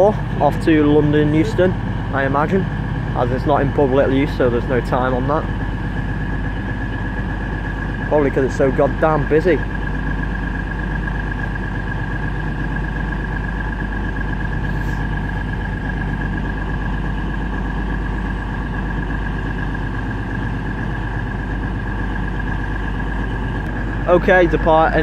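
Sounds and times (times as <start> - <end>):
diesel train engines idling: 0.0 - 25.0
steady high whine: 0.0 - 25.0.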